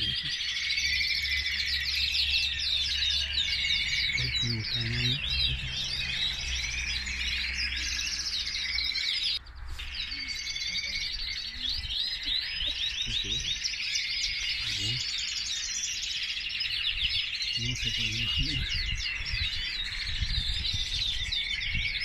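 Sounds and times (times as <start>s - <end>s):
canaries chirping and trilling: 0.0s - 22.0s.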